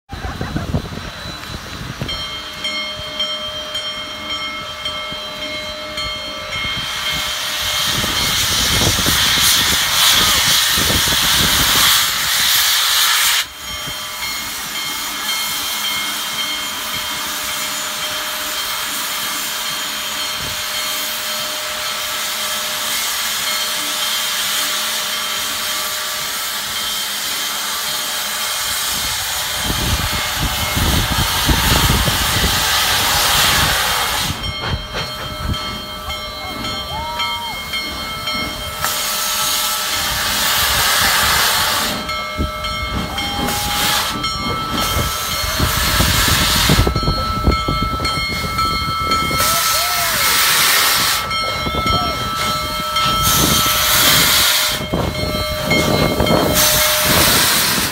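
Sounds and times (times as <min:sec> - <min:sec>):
steam hissing from locomotive: 0:00.1 - 0:57.9.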